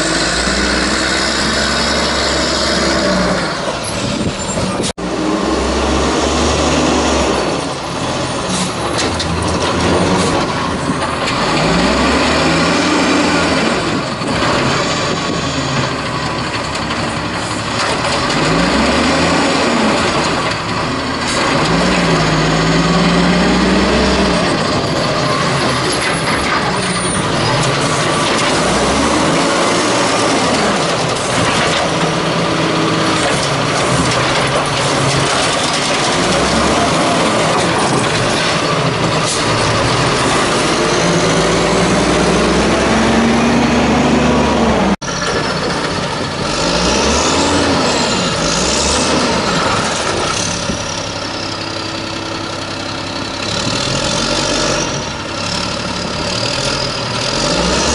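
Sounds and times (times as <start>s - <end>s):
garbage truck engine revving: 0.0s - 57.9s
truck arm lifting cart: 0.0s - 57.9s.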